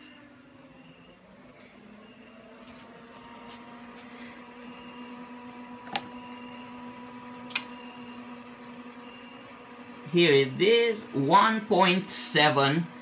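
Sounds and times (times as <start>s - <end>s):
amplifier cooling fan hum: 0.0s - 13.0s.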